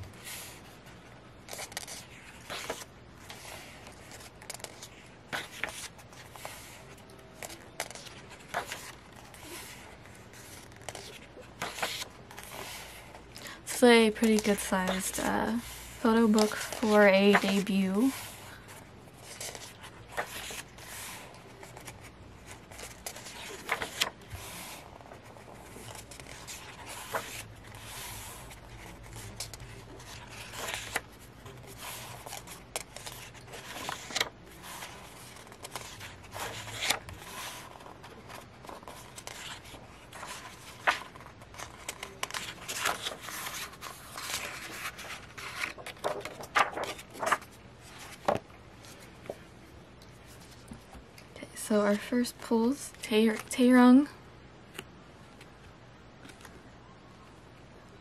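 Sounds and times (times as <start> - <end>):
pages turning: 1.4 - 49.4.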